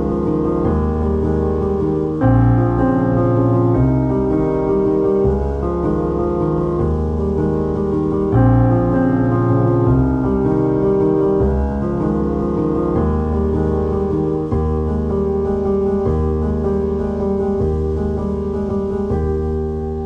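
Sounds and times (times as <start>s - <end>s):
keyboard playing sustained chords: 0.0s - 20.0s.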